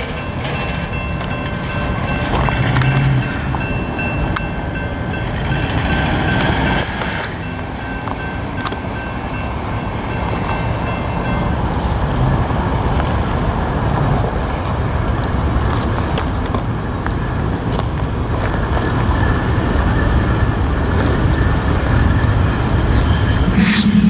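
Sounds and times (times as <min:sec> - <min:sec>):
sharp clicks of train wheels: 0:00.0 - 0:24.0
train wheels rumbling on rails: 0:00.0 - 0:24.0.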